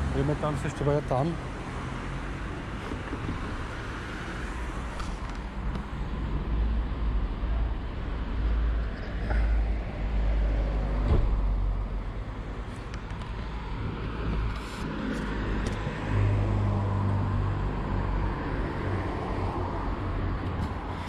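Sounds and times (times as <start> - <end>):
cars passing: 0.0 - 21.0
low traffic rumble: 0.0 - 21.0.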